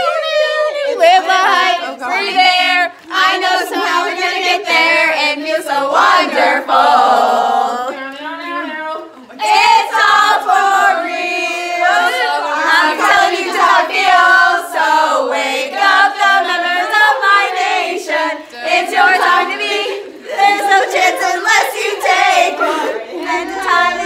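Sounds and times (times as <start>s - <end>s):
group singing slow song: 0.0s - 8.2s, 9.0s - 24.0s.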